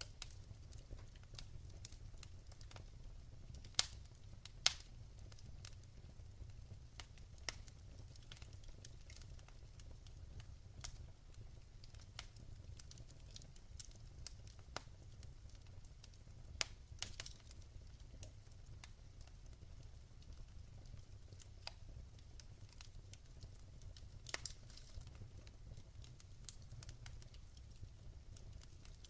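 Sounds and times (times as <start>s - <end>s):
fire crackling and popping: 0.0s - 29.0s
low rumble of burning fire: 0.0s - 29.0s.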